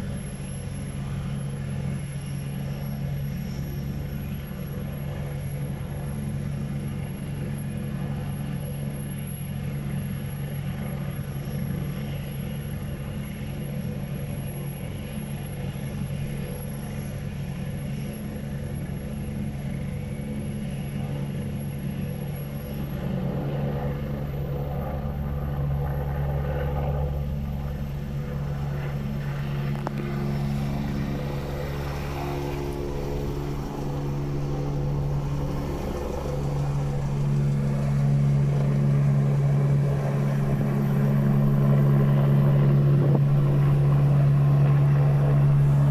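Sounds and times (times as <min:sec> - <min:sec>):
helicopter rotor rumble: 0:00.0 - 0:45.9
helicopter turbine whine: 0:00.0 - 0:45.9.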